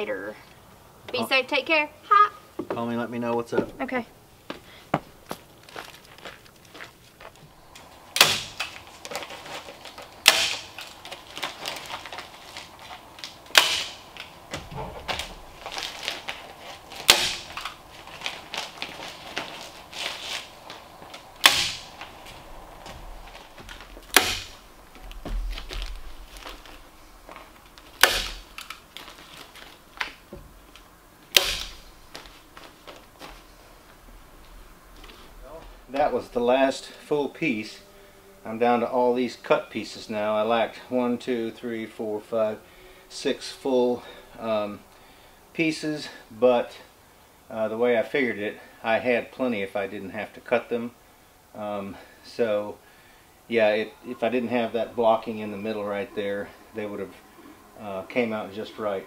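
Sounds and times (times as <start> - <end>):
insulation batts rustling: 2.5 - 59.0.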